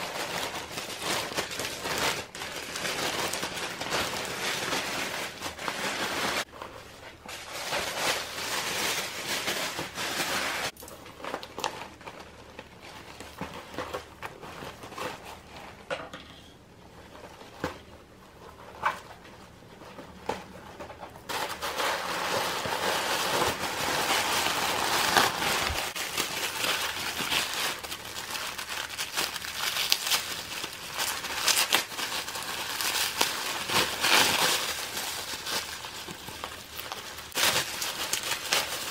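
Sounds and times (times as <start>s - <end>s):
plastic bag crinkling: 0.0s - 15.7s, 20.5s - 38.9s.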